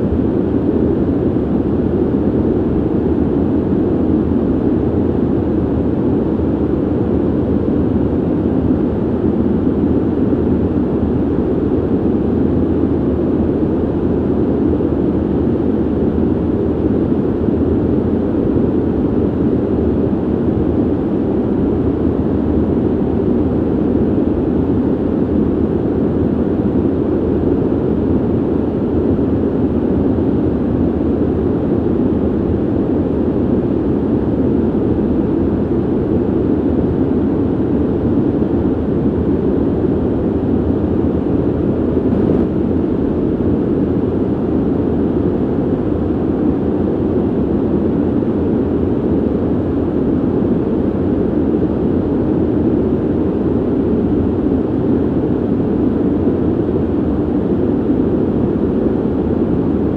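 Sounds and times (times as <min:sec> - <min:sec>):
ventilation air rushing: 0:00.0 - 0:59.9.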